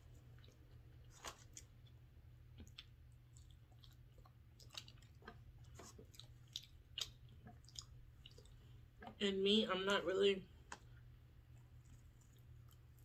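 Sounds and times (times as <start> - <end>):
person chewing with crunches: 0.0 - 9.2, 10.6 - 13.0
low steady hum: 0.0 - 13.0.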